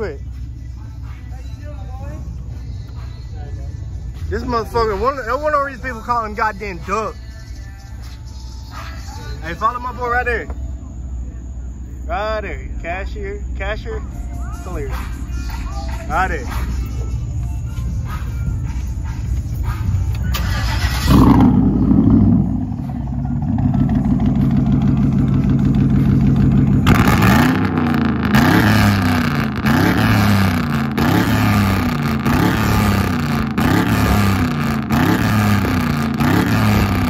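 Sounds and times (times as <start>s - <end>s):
truck engine revving and idling: 0.0s - 37.0s.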